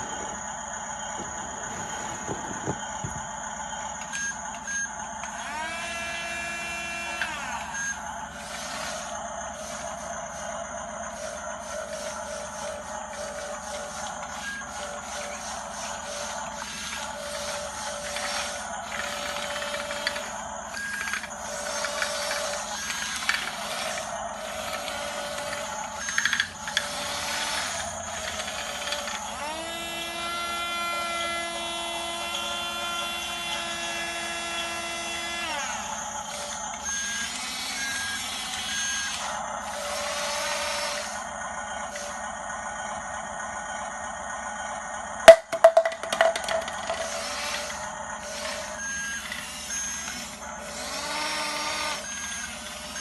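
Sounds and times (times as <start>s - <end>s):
electric motors and gears whining: 0.0s - 53.0s.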